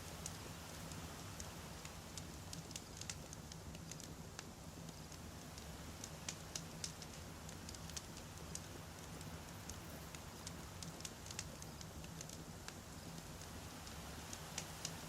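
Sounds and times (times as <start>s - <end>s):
campfire crackling and popping: 0.1s - 15.0s.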